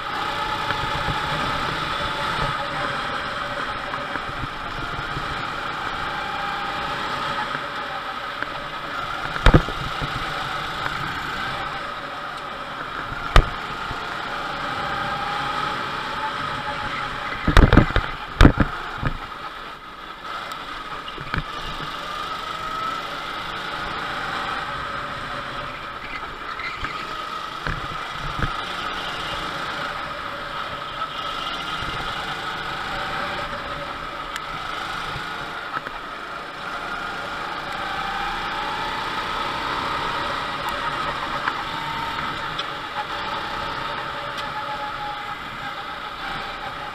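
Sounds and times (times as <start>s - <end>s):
go-kart engine: 0.0s - 46.9s.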